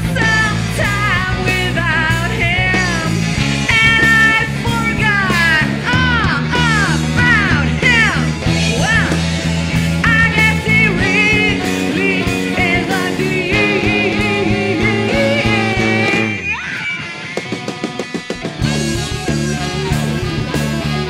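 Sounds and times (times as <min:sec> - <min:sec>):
plucked guitar notes: 0:00.0 - 0:17.5, 0:18.5 - 0:21.0
live rock band playing: 0:00.0 - 0:21.0.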